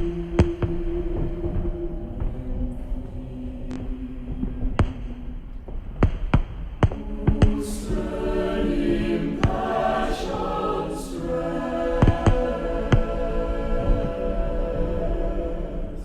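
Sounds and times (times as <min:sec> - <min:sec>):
choir-like voices: 0:00.0 - 0:16.0
low drone: 0:00.0 - 0:16.0.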